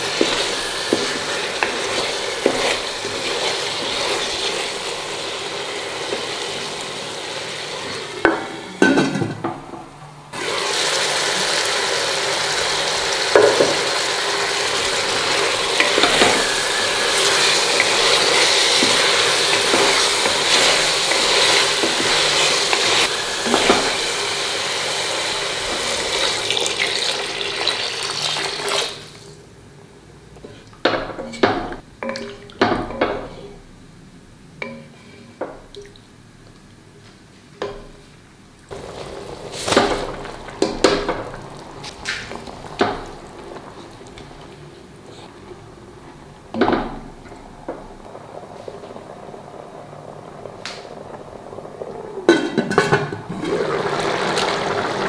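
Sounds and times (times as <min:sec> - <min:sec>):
food sizzling in a pot: 0:00.0 - 0:08.9, 0:10.3 - 0:29.4, 0:38.7 - 0:55.0.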